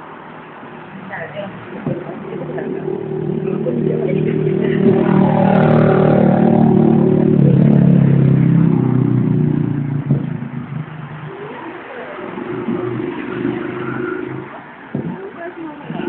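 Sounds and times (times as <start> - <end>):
motorcycle engine running: 1.7 - 16.0.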